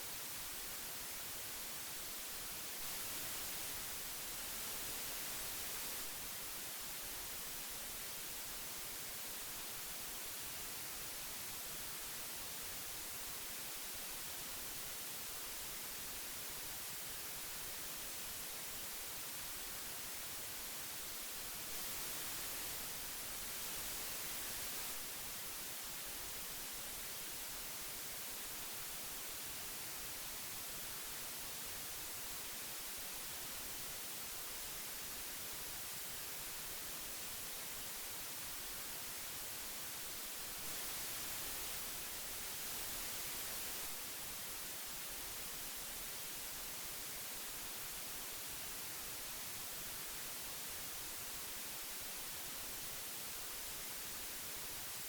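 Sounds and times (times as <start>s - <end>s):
tape hiss: 0.0s - 55.0s.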